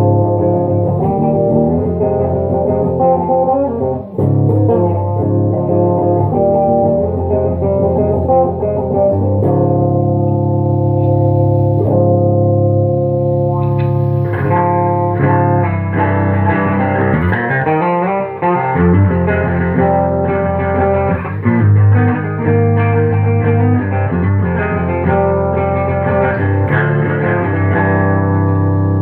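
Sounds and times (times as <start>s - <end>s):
electric guitar chords: 0.0s - 29.0s
electric guitar sliding notes: 0.0s - 29.0s.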